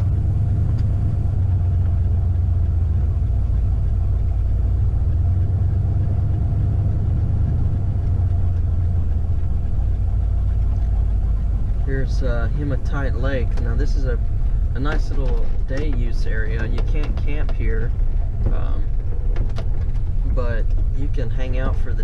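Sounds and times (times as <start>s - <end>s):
road noise: 0.0s - 22.0s
van engine rumble while driving: 0.0s - 22.0s.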